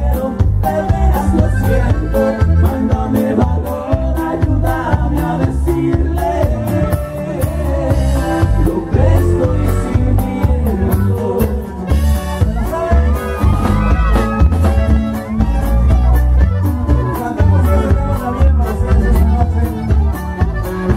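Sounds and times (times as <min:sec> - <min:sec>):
live band playing: 0:00.0 - 0:20.9
person singing: 0:00.0 - 0:20.9
steady bass beat: 0:00.0 - 0:20.9.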